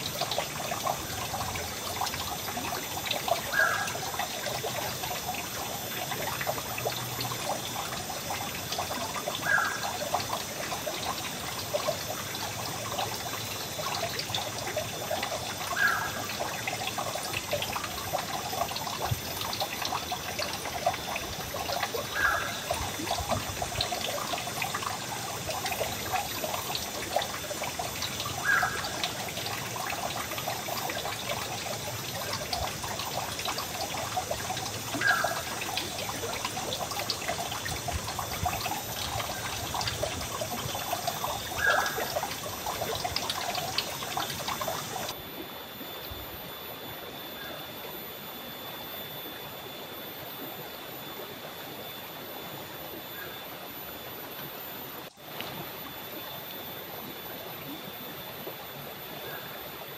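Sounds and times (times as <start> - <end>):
stream flowing over rocks: 0.0 - 45.9, 49.7 - 59.9
water gurgle: 0.0 - 59.9.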